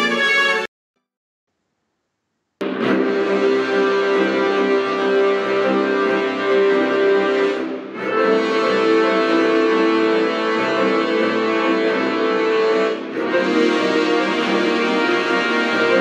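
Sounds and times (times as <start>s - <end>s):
instrumental music with held notes: 2.6s - 16.0s.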